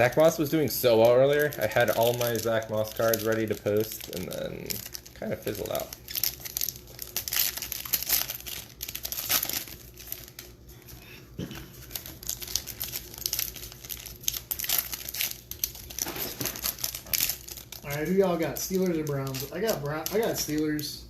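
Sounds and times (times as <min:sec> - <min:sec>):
plastic wrapping crinkling and tearing: 0:00.0 - 0:20.9.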